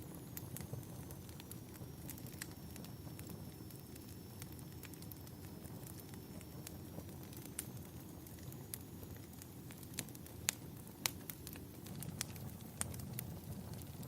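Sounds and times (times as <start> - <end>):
fire popping: 0.0 - 14.0
fireplace fire crackling: 0.0 - 14.0.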